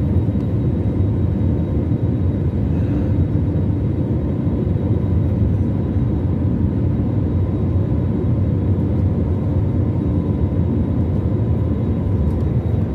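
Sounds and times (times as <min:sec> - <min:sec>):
aircraft engine and airflow rumble: 0:00.0 - 0:12.9
faint steady whine: 0:00.0 - 0:12.9.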